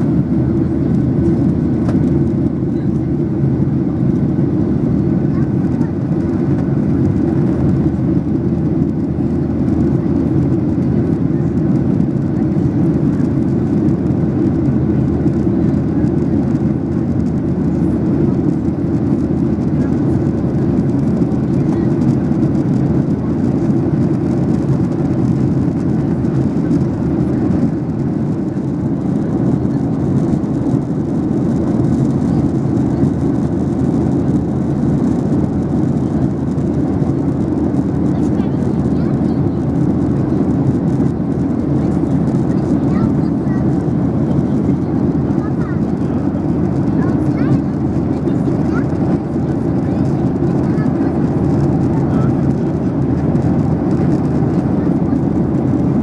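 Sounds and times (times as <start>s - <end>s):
airflow over fuselage: 0.0s - 56.0s
airplane cabin engine rumble: 0.0s - 56.0s.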